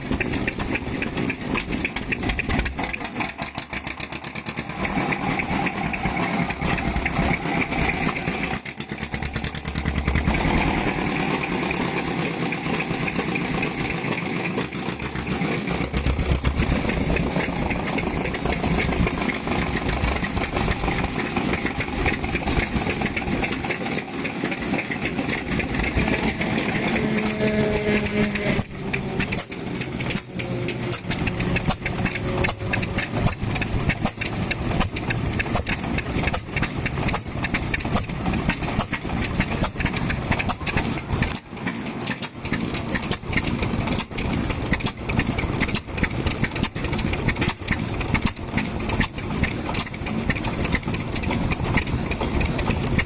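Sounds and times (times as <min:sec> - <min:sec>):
stationary engine running: 0:00.0 - 0:53.0.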